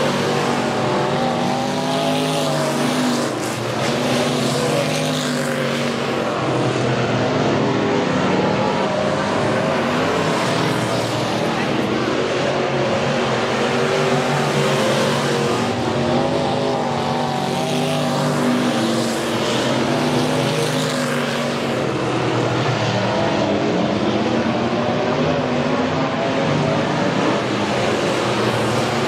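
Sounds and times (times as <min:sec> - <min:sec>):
race car engines running hard: 0:00.0 - 0:29.0.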